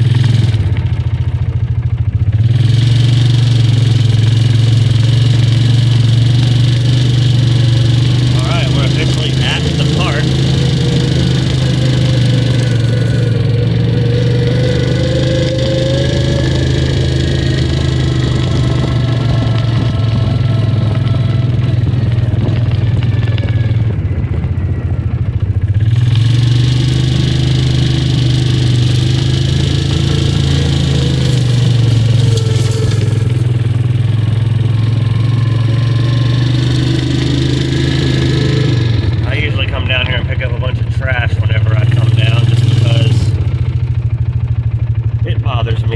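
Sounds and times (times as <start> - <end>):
utility buggy engine droning: 0.0 - 45.9.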